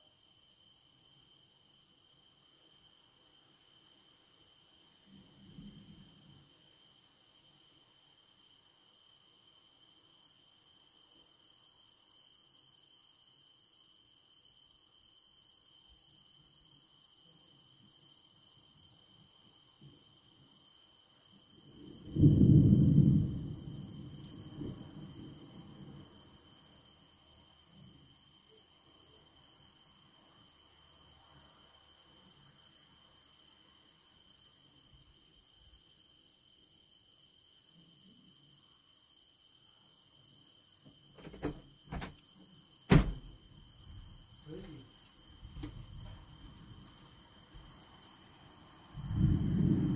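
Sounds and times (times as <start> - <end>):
high-pitched insect trill: 0.0 - 49.9
crickets singing: 5.7 - 49.9.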